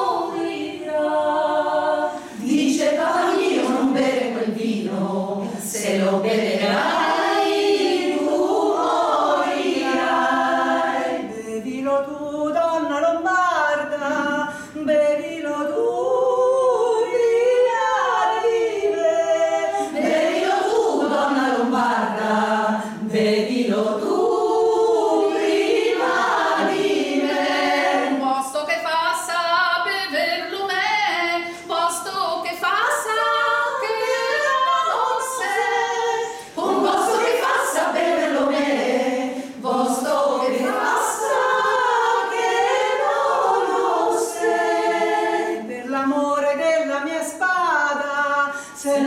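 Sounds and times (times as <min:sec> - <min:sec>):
women's choir singing: 0:00.0 - 0:49.0.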